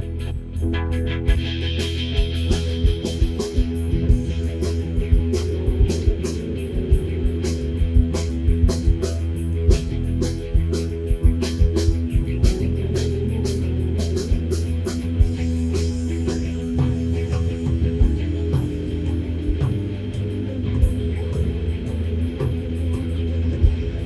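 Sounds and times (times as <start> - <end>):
music with guitars: 0.0 - 24.0
drum beat: 1.4 - 24.0.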